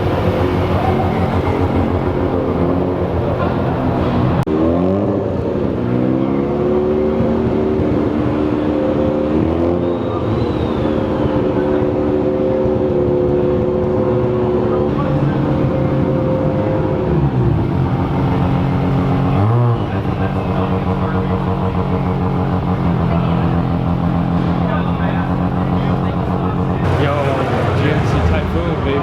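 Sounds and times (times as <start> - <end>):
car engine revving hard: 0.0 - 29.0.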